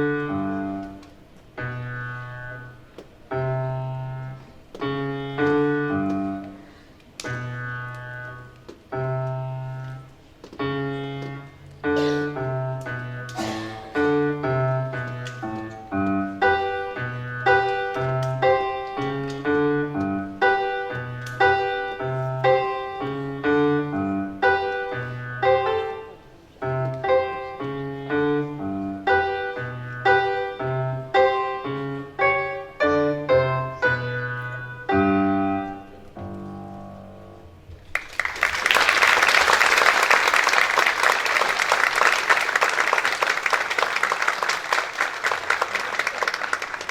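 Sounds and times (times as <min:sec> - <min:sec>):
piano piece: 0:00.0 - 0:45.6.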